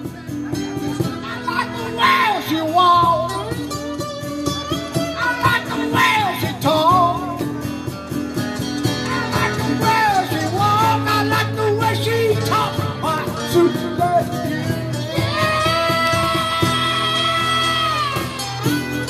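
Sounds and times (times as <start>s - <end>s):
rock and roll band with guitars: 0.0s - 19.0s
man singing: 1.0s - 4.1s, 4.7s - 7.7s, 8.9s - 18.4s.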